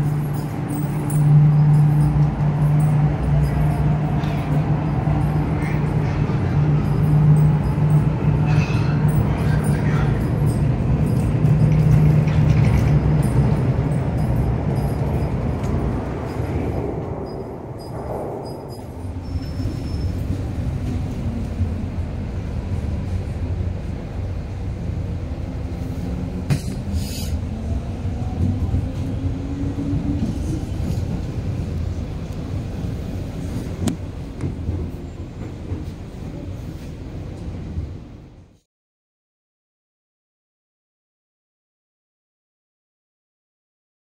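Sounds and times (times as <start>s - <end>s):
train rumbling: 0.0s - 38.6s.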